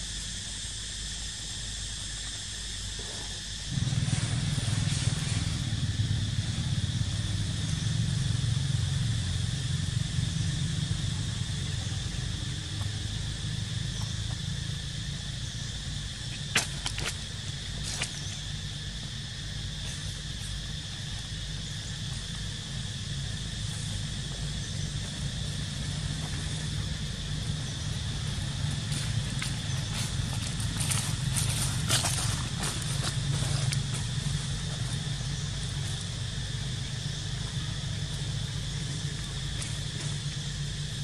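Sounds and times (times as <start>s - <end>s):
constant low rumble: 0.0s - 41.0s
high insect drone: 0.0s - 41.0s.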